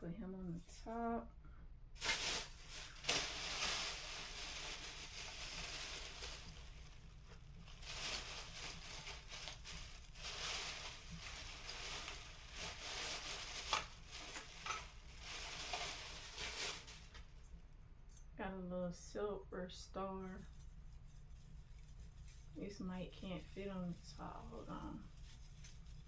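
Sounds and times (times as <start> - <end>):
rustling of artificial tree branches: 2.0 - 18.2, 20.4 - 26.0.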